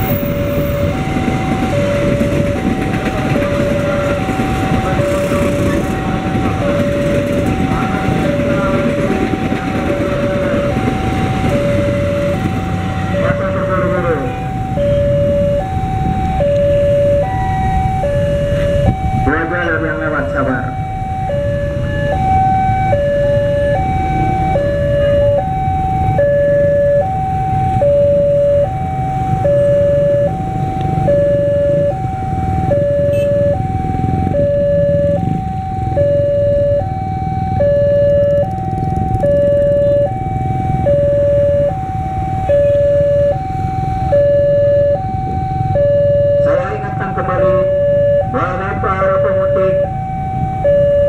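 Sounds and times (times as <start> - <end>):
level crossing two-tone alarm: 0.0 - 51.0
low rumble of traffic: 0.0 - 51.0.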